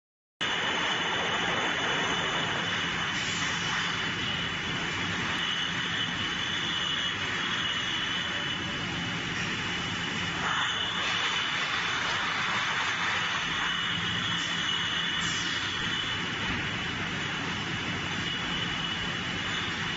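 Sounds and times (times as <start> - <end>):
machine noise with high whine: 0.4 - 19.9.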